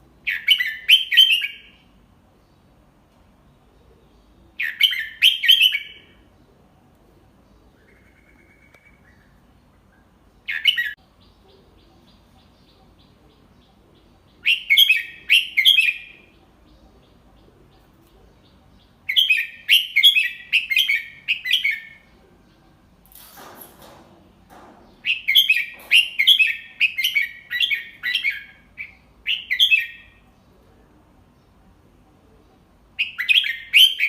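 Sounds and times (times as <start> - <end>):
bird singing: 0.2 - 2.8, 3.4 - 6.6, 7.3 - 23.0, 24.5 - 34.0.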